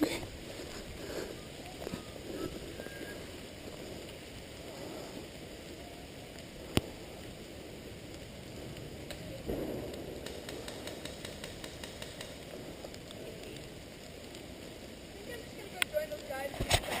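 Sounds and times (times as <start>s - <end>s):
rustling: 0.0s - 17.0s
steady rain falling: 0.0s - 17.0s.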